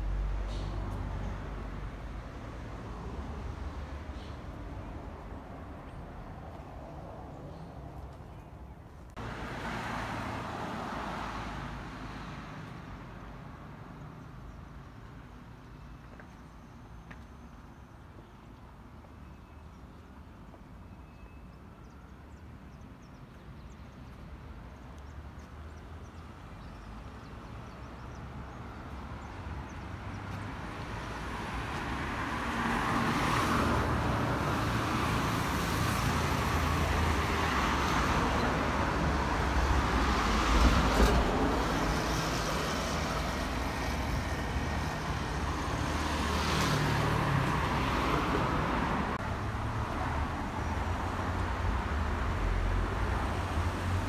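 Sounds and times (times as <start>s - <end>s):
cars passing on road: 0.0s - 20.9s, 21.7s - 54.0s.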